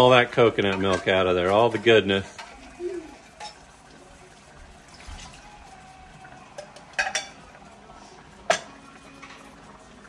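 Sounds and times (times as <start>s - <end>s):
metal spoon stirring in a pan: 0.0s - 5.7s, 6.3s - 9.6s.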